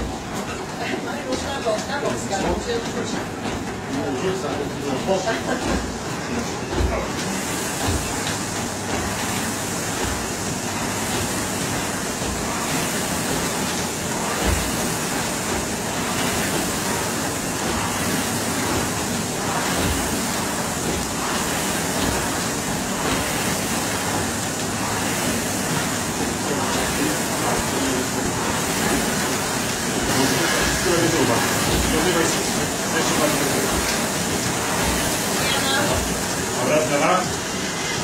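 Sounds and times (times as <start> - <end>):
rowing machine flywheels whooshing: 0.0 - 38.0.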